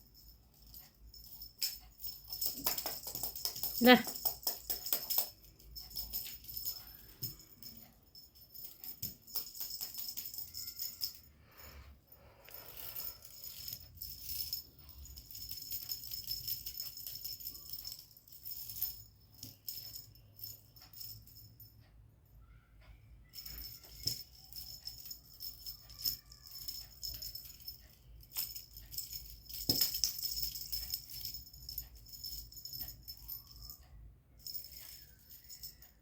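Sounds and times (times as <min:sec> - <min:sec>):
faint jingling and rattling clicks: 0:00.0 - 0:11.4, 0:12.0 - 0:36.0.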